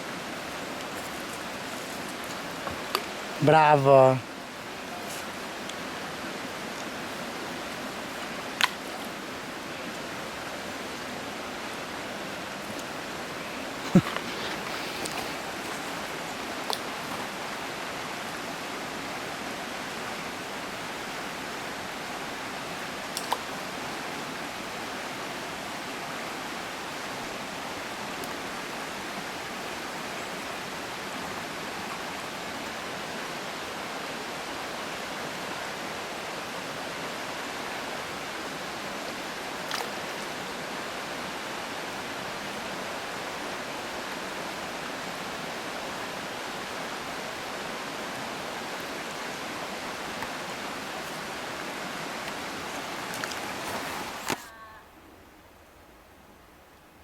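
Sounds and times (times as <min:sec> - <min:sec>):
stream rushing: 0:00.0 - 0:54.4.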